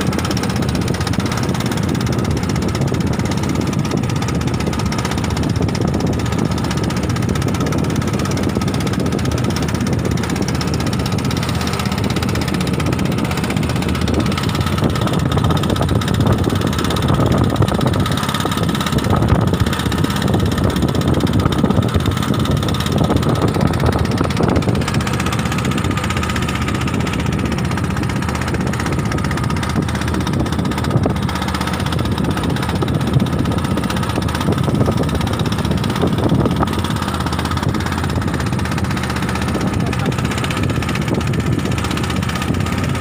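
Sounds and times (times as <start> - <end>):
small boat engine running: 0.0 - 43.0.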